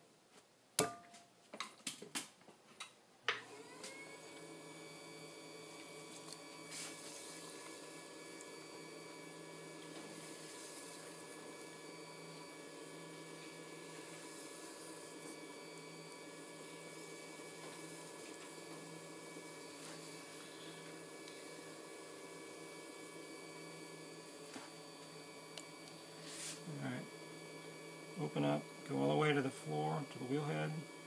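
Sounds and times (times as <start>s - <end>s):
potter's wheel motor hum: 3.4s - 31.0s.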